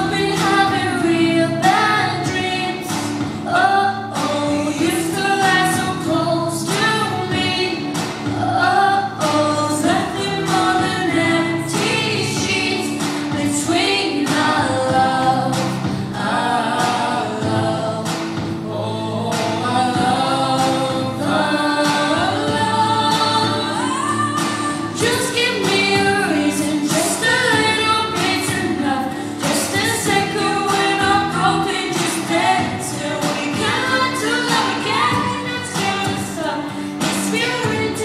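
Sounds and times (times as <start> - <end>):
woman singing pop ballad: 0.0 - 38.0.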